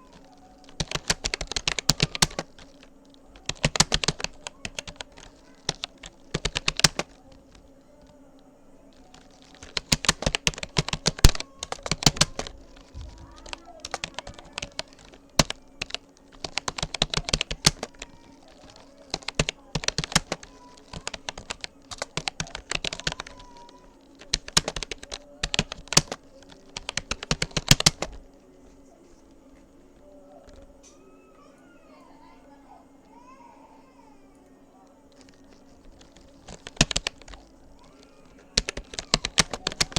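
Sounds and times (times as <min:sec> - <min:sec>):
computer keyboard typing: 0:00.0 - 0:28.5, 0:30.0 - 0:30.8, 0:34.4 - 0:39.9.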